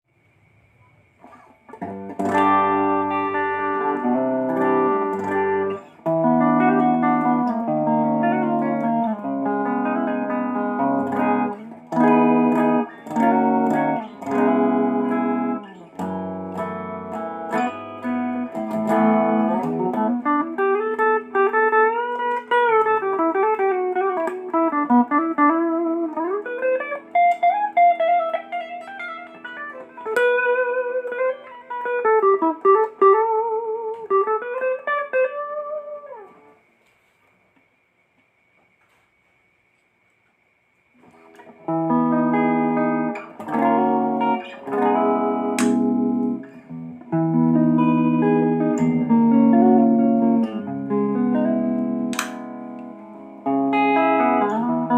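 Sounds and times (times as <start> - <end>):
electric guitar lead line: 1.2 - 36.6, 41.1 - 54.9
electric guitar strummed chords: 1.7 - 36.5, 41.1 - 54.9.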